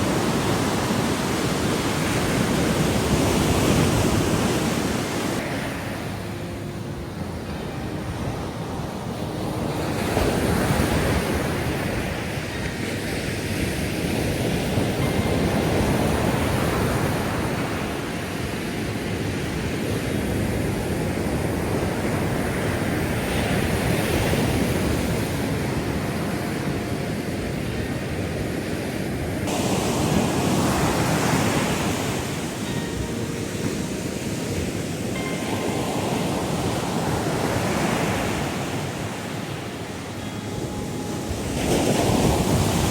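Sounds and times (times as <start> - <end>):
ocean waves washing in: 0.0 - 42.9.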